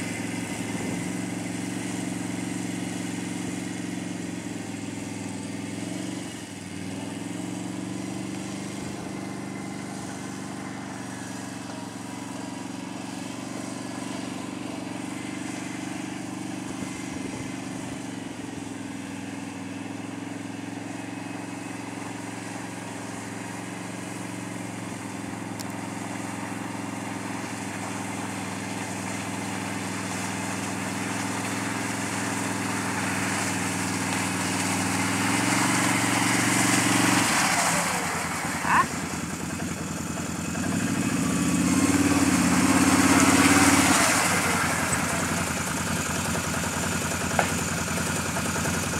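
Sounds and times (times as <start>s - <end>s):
atv engine running at low revs: 0.0s - 48.9s.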